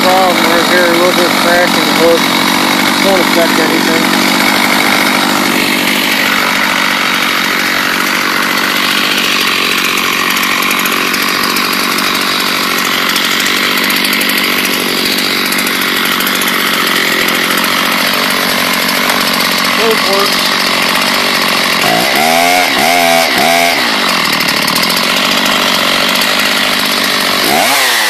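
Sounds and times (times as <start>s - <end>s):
chainsaw engine running: 0.0s - 28.0s.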